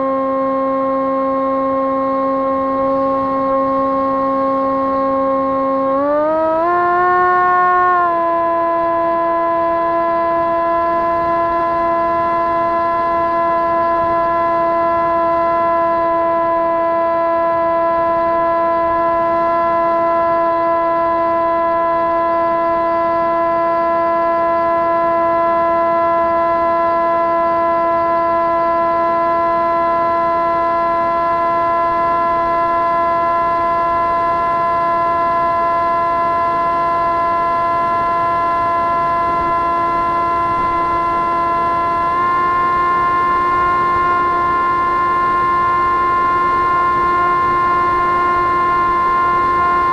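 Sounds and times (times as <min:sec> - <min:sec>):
electric motor and propeller whine: 0:00.0 - 0:49.9.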